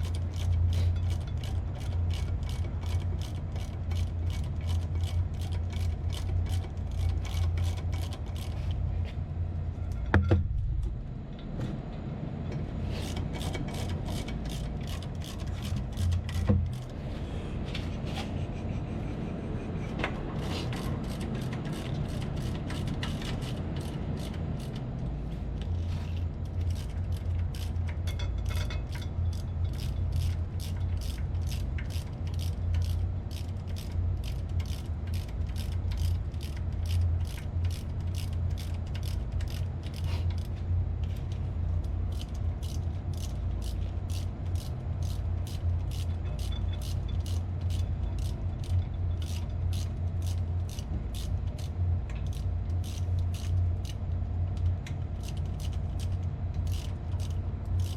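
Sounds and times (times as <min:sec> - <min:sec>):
low mechanical hum: 0:00.0 - 0:57.9.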